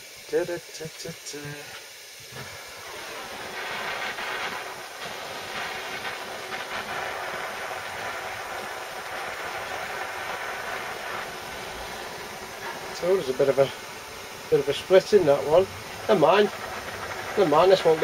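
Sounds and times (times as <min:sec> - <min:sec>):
blow torch hissing: 0:00.0 - 0:18.0.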